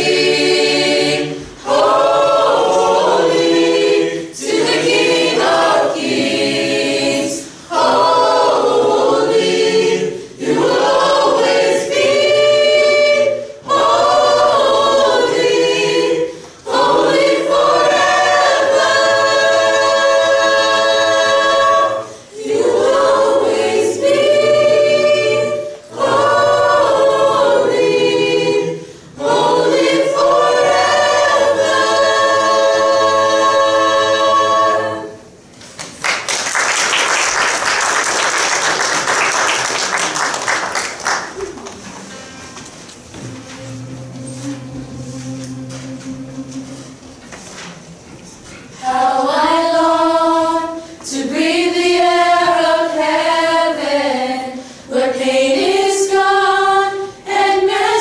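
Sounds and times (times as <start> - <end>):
choir singing a cappella: 0.0 - 35.5, 43.0 - 58.0.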